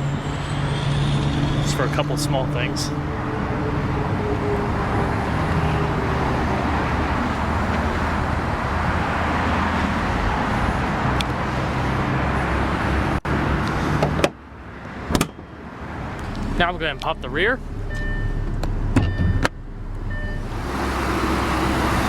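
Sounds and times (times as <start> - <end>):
motor vehicle rumbling: 0.0 - 22.0.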